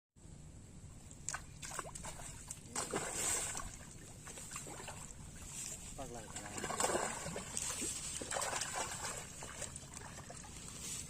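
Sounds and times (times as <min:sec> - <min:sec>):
low outdoor rumble: 0:00.2 - 0:11.0
pond water splashing: 0:01.0 - 0:11.0.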